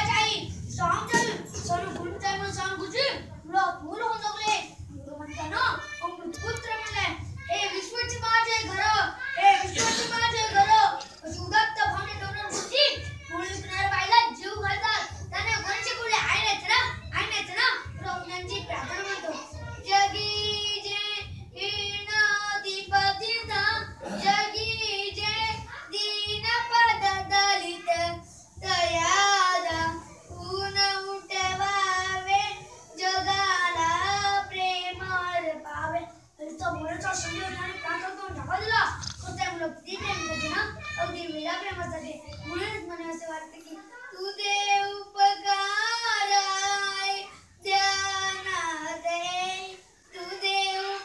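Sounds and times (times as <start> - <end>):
boy singing: 0.0 - 51.0.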